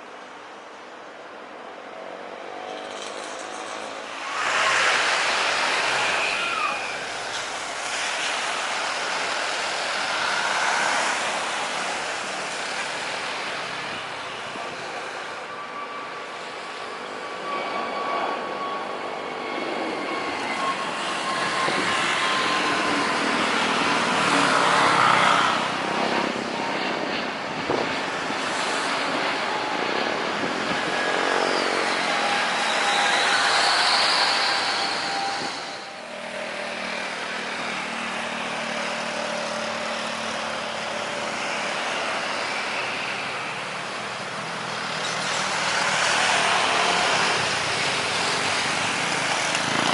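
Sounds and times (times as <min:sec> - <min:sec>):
high jet engine whine: 0:00.0 - 0:49.9
jet engine roar: 0:02.2 - 0:49.9.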